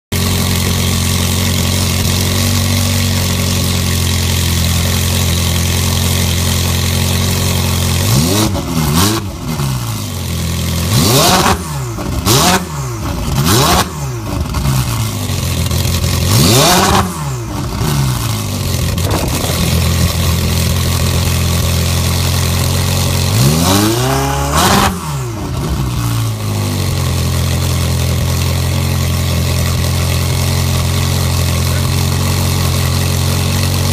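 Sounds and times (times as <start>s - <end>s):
sports car engine idling and revving: 0.1s - 33.9s.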